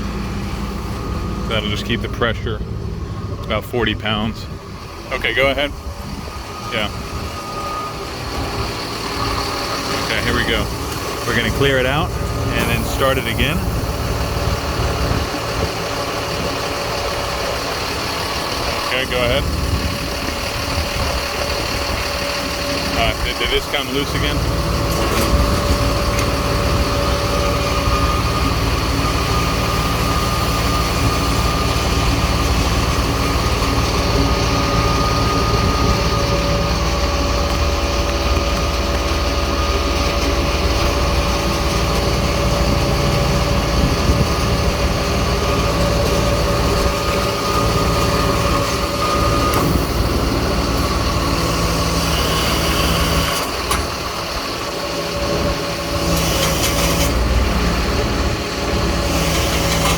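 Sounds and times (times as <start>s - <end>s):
fuel pump whine: 0.0s - 59.9s
truck engine rumbling: 0.0s - 59.9s.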